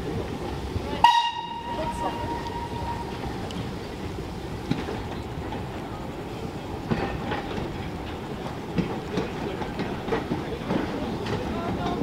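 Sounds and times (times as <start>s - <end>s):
steam train rumbling: 0.0s - 12.0s.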